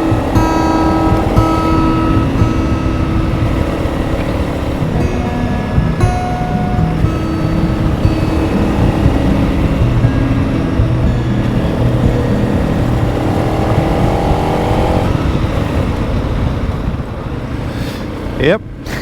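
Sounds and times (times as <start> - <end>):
motorcycle engine running: 0.0 - 17.5
road and wind rumble: 0.0 - 19.0.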